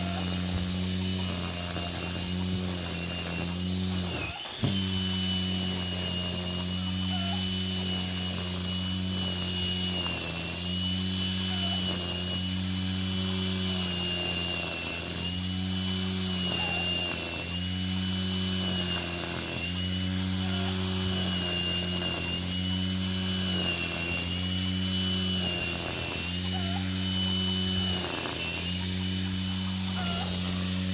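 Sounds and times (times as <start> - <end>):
angle grinder cutting grass: 0.0 - 30.9.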